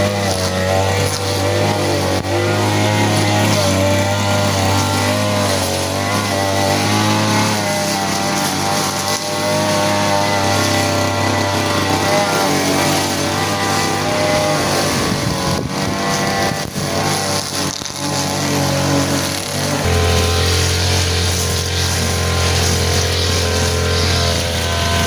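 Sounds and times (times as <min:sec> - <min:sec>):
small petrol engine running: 0:00.0 - 0:25.0.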